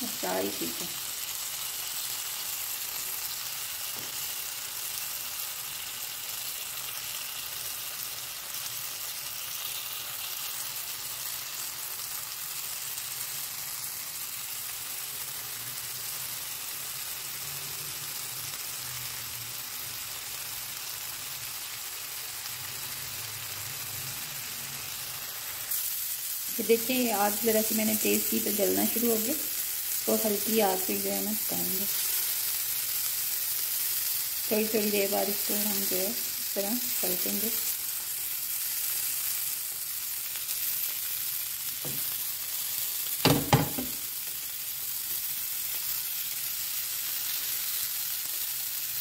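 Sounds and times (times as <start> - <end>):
food sizzling in a pan: 0.0 - 49.0.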